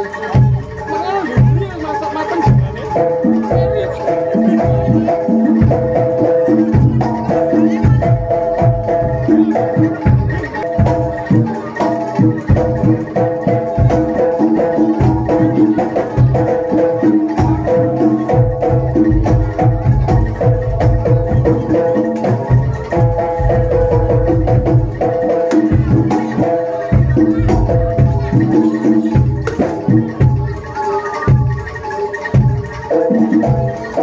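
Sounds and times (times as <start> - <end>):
drum strokes: 0.0 - 34.0
metallophones ringing melody: 0.0 - 34.0.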